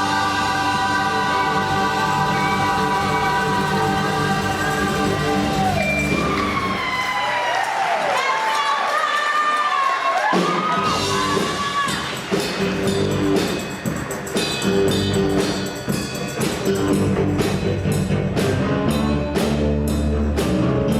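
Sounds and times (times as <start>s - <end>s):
band music: 0.0s - 7.0s, 10.4s - 20.9s
drums steady beat: 0.0s - 7.1s, 10.3s - 20.9s.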